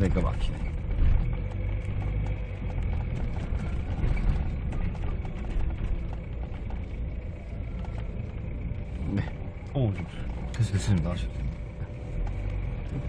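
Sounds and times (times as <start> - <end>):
diesel engine idling rumble: 0.0 - 13.0.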